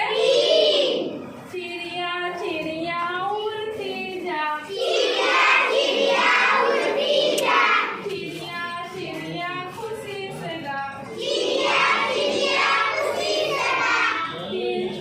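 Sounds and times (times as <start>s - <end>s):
children singing a rhyme: 0.0s - 15.0s.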